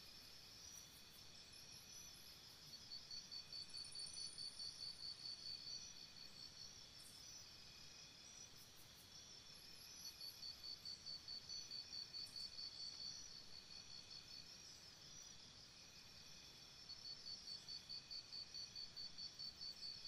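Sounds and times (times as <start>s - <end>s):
faint high insect chirp pulsing: 0.0s - 20.0s
chorus of high insect calls: 0.2s - 20.0s.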